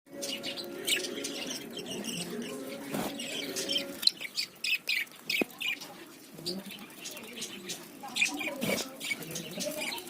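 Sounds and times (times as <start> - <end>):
birds chirping and twittering: 0.1 - 10.0.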